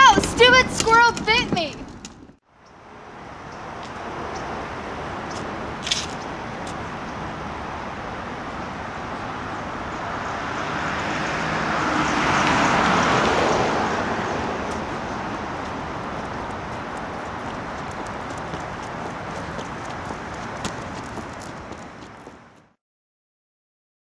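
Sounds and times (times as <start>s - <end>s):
outdoor traffic noise: 0.0s - 22.8s
road vehicle passing: 0.0s - 22.8s.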